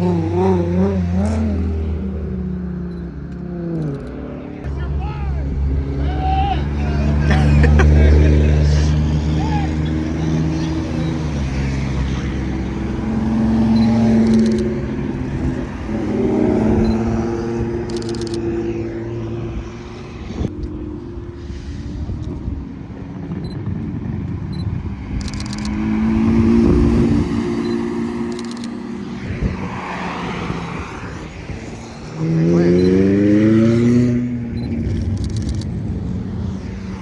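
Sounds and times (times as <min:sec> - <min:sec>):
car engines driving past: 0:00.0 - 0:37.0.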